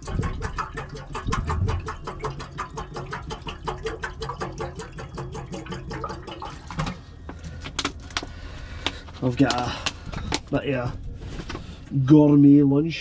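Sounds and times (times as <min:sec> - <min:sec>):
water glugging from bottle: 0:00.0 - 0:11.8.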